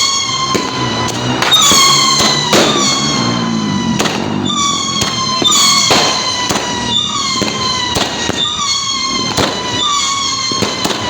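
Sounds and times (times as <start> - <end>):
falling firework whistles: 0.0 - 11.0
firework bangs: 0.0 - 11.0.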